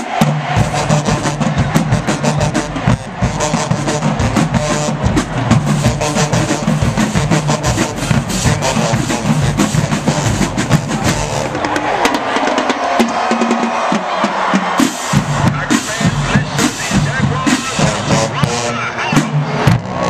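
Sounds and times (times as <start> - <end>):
music with driving drum beat: 0.0 - 20.0.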